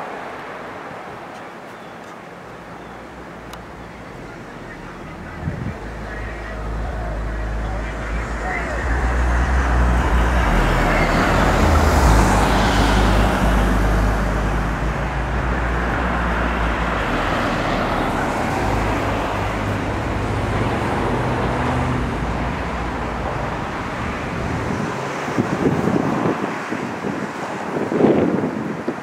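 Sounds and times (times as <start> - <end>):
road noise: 0.0 - 29.0
low engine rumble: 2.5 - 26.2.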